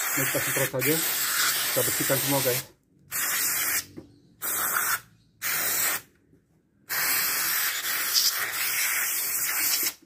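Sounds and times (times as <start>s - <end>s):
aerosol can spraying: 0.0s - 6.1s, 6.9s - 10.0s.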